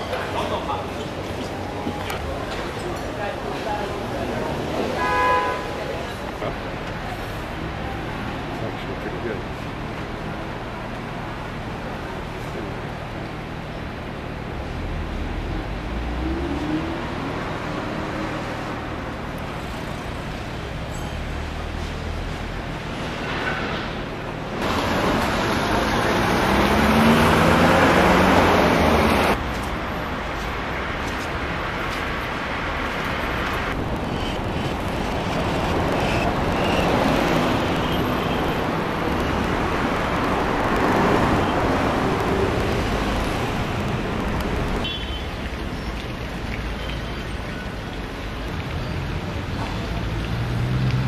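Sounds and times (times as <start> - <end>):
passing motor vehicles: 0.0 - 51.0.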